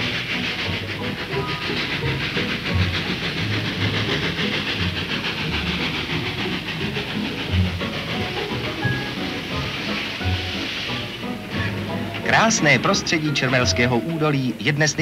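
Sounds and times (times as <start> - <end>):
steam hiss: 0.0 - 15.0
train running rhythm: 0.0 - 15.0.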